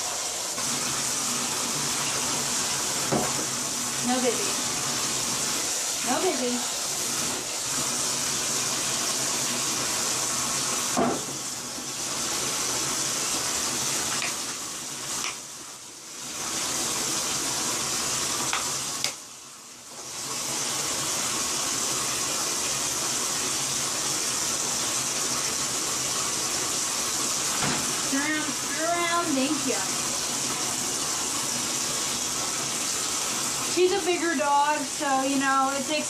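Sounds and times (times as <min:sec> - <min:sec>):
water splashing into bathtub: 0:00.0 - 0:19.3, 0:20.0 - 0:36.0.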